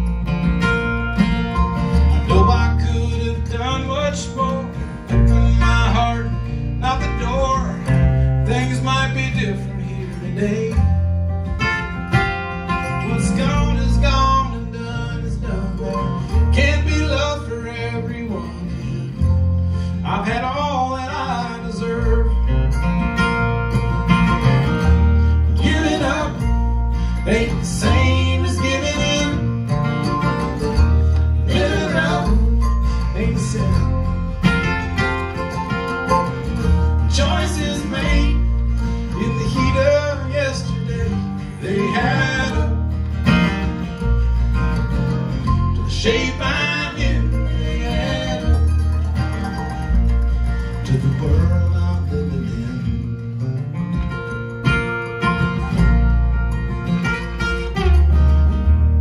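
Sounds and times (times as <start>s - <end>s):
mandolin: 0.0s - 59.0s
plucked upright bass: 0.0s - 59.0s
strummed acoustic guitar: 0.0s - 59.0s.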